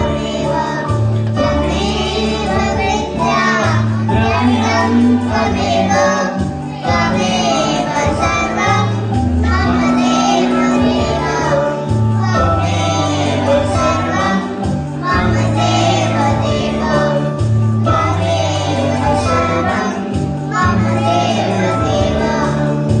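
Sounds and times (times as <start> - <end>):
instrumental accompaniment low notes: 0.0 - 23.0
young children singing: 0.0 - 23.0.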